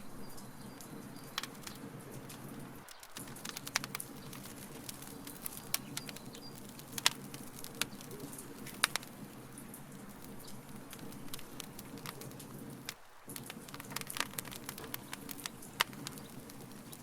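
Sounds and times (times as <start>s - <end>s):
burning wood crackling and popping: 0.0s - 17.0s.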